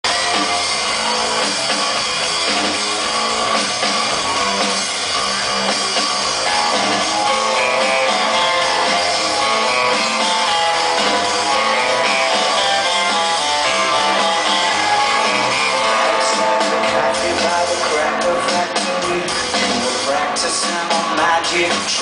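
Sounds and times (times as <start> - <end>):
electric guitar: 0.0 - 22.0
live rock band playing: 0.0 - 22.0.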